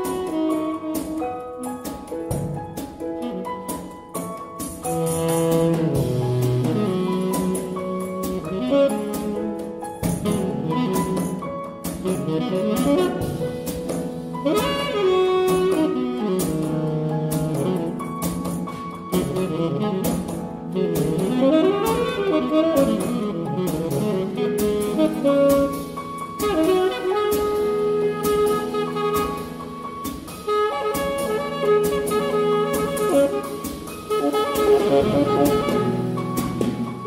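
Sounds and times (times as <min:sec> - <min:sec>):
drum and cymbal hits: 0:00.0 - 0:37.0
piano: 0:00.0 - 0:37.0
saxophone: 0:00.0 - 0:37.0.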